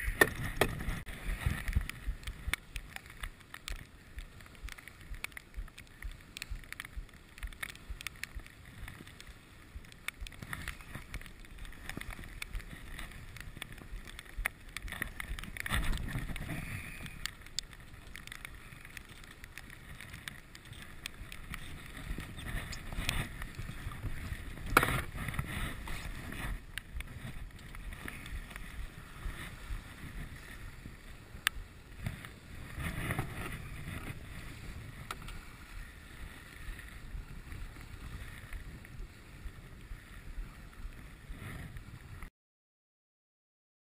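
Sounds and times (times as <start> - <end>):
wind buffeting microphone: 0.0 - 42.3.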